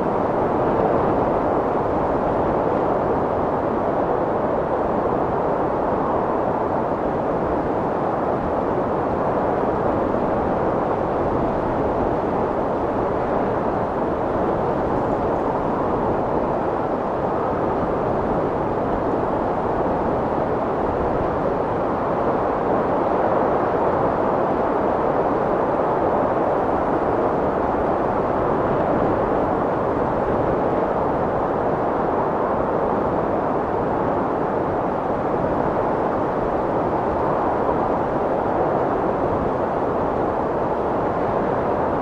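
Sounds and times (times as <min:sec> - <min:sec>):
strong wind blowing: 0:00.0 - 0:42.0.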